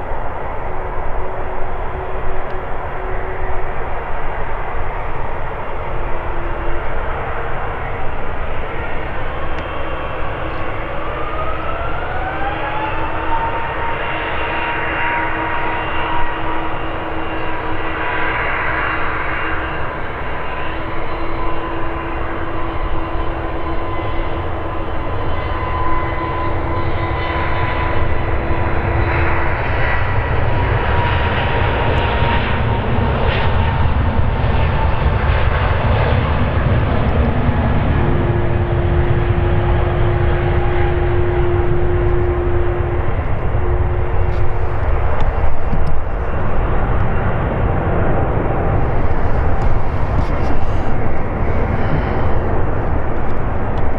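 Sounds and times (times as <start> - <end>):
jet engines rumbling and whining: 0.0 - 53.9.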